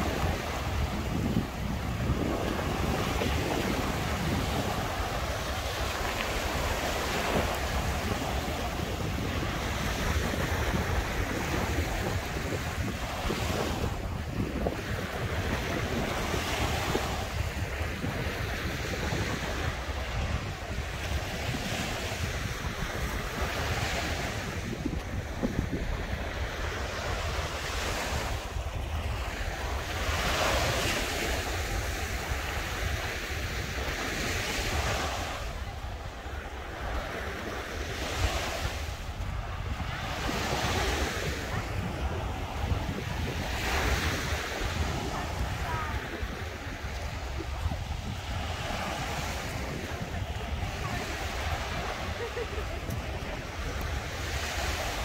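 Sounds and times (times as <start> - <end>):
surf washing onto beach: 0.0 - 55.0
wind buffeting microphone: 0.0 - 55.0.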